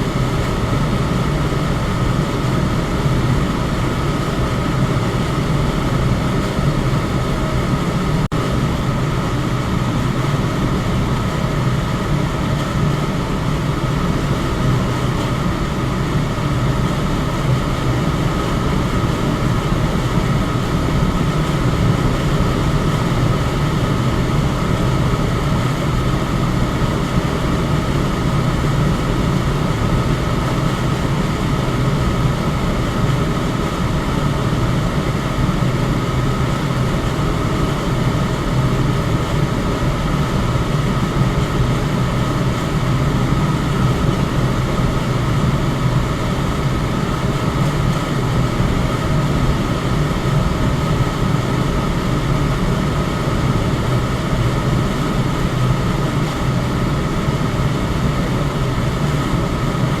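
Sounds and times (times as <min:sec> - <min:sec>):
electric fan running: 0:00.0 - 1:00.0.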